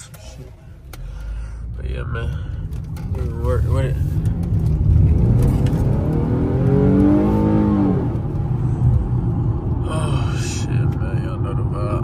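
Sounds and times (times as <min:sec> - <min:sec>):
car engine rumble in cabin: 0:00.0 - 0:12.0.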